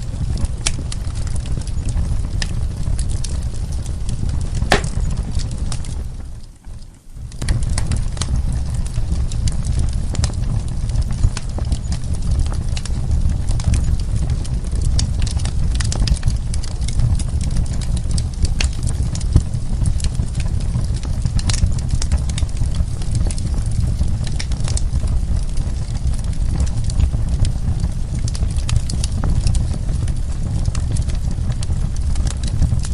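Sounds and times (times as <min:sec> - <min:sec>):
low rumble of flames: 0:00.0 - 0:32.9
wood fire crackling and popping: 0:00.0 - 0:32.9.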